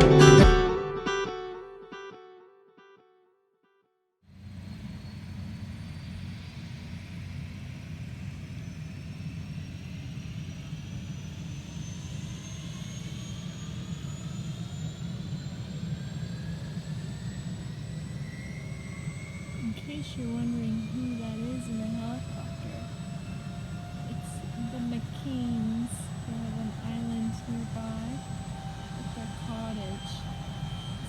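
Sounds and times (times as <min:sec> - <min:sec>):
helicopter rumble and whine: 0:04.3 - 0:31.0.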